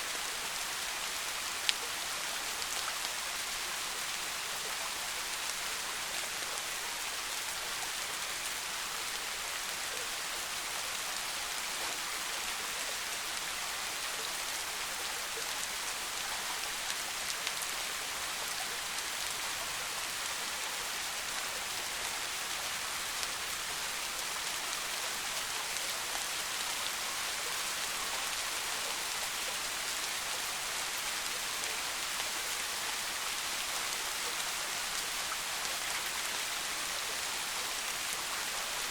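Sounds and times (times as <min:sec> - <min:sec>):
rain falling through forest: 0:00.0 - 0:38.9.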